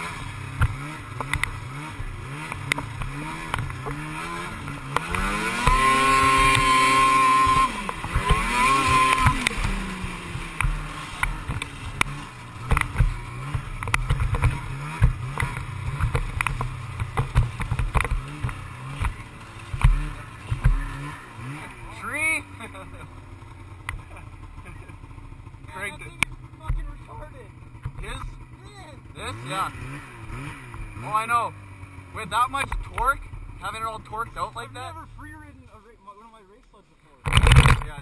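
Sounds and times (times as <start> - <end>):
snowmobile engine revving: 0.0 - 38.0.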